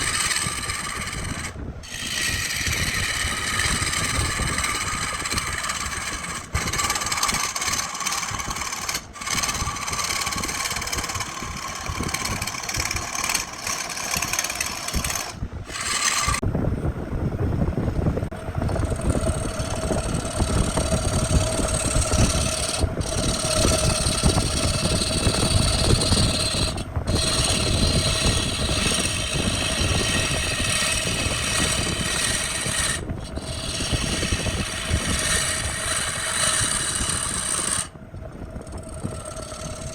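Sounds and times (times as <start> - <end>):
turning tool scraping wood: 0.0 - 16.4, 18.3 - 39.9
wood lathe running: 0.0 - 16.4, 18.3 - 38.0, 38.6 - 39.9.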